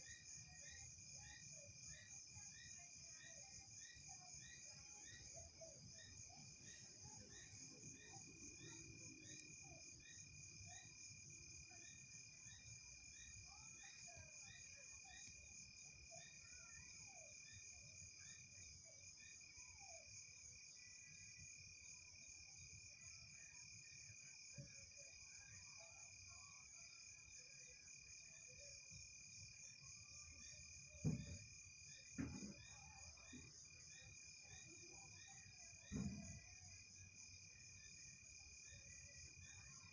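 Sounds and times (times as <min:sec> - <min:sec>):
crickets trilling: 0:00.0 - 0:39.9
lower steady insect tone: 0:00.0 - 0:39.9.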